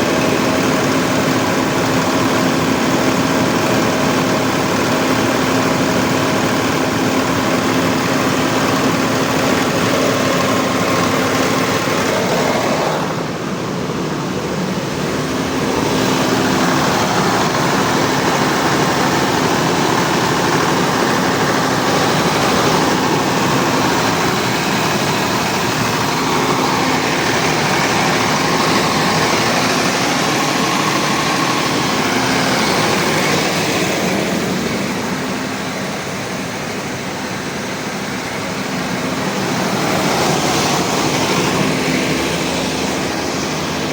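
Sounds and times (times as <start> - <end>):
diesel generator droning: 0.0 - 43.9.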